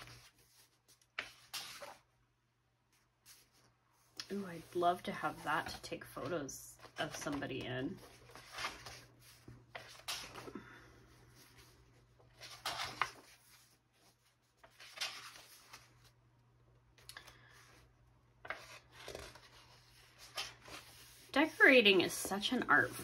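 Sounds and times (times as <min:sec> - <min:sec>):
catalog pages turning: 0:00.0 - 0:02.1, 0:03.3 - 0:10.5, 0:11.4 - 0:16.1, 0:18.4 - 0:23.0.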